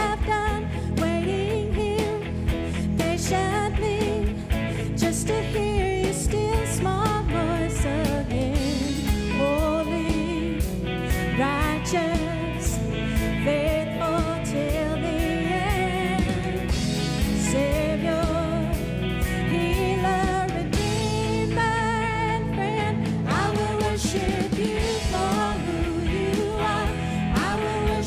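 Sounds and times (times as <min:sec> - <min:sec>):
live band playing: 0:00.0 - 0:28.0
woman singing: 0:00.0 - 0:28.0.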